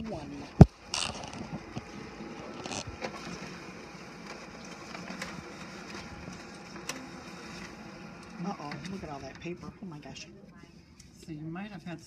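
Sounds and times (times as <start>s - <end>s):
laser printer running: 0.0s - 10.8s.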